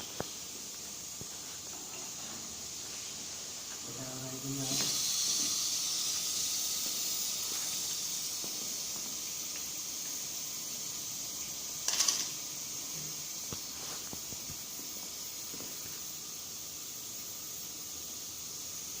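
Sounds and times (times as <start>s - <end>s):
pressurized gas hissing: 0.0s - 19.0s.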